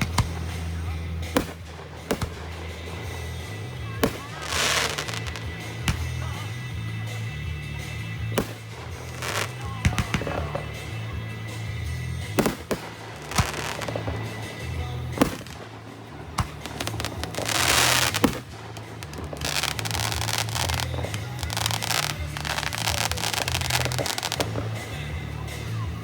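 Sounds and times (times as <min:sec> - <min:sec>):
firework hissing burst: 0:00.0 - 0:06.0, 0:08.4 - 0:10.6, 0:12.4 - 0:24.9
firework bangs: 0:00.0 - 0:26.0
firework crackling: 0:00.0 - 0:26.0
music: 0:00.0 - 0:26.0.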